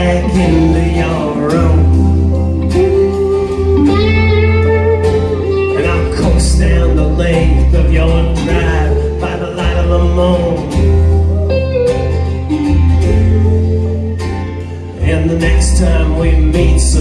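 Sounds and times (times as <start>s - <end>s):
acoustic and electric guitars: 0.0s - 17.0s
drums: 0.0s - 17.0s
keyboard: 0.0s - 17.0s.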